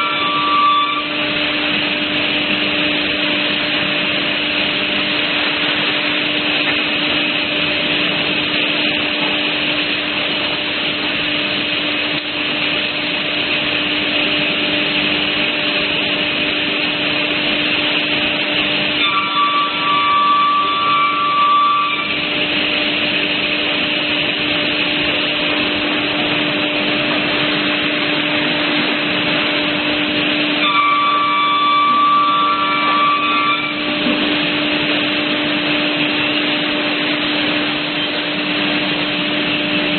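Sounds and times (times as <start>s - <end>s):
panel saw running: 0.0s - 8.5s, 15.4s - 39.9s
saw whine cutting wood: 0.0s - 11.8s, 14.3s - 39.1s.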